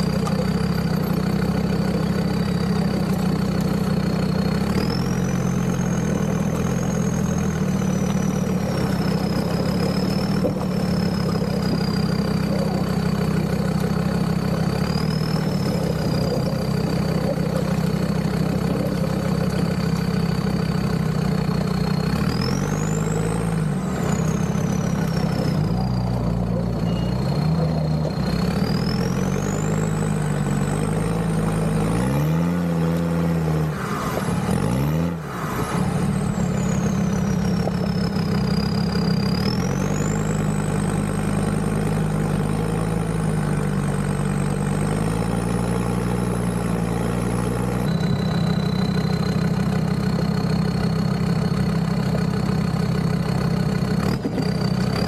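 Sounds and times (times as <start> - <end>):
diesel engine running while driving: 0.0 - 55.0.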